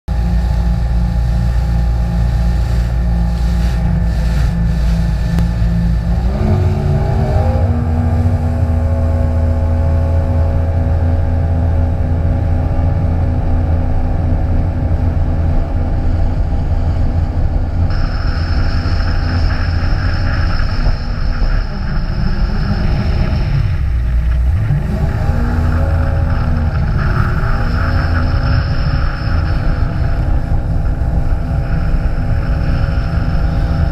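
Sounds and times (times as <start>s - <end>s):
high steady whine: 0.1s - 33.9s
jet ski engine running: 0.1s - 33.9s.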